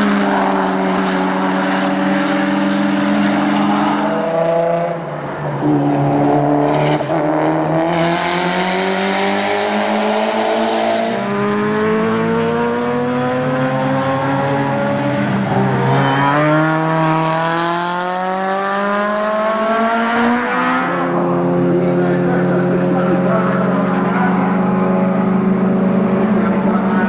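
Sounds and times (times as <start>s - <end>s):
race car engine accelerating: 0.0s - 27.0s.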